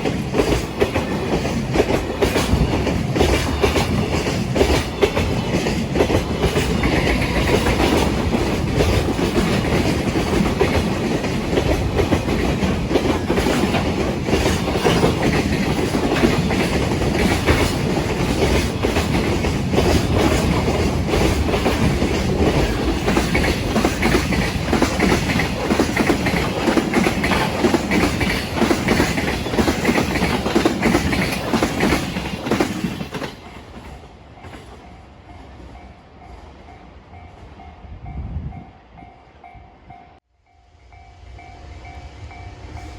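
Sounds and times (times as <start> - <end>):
freight train wheels clattering: 0.0 - 35.8.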